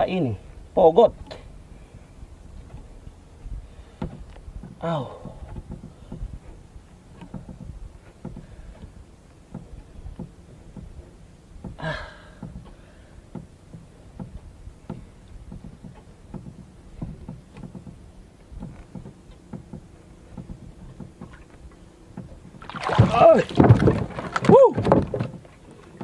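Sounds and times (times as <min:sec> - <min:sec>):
low water sounds: 0:00.0 - 0:26.0
fishing line knocking against hull: 0:03.8 - 0:26.0.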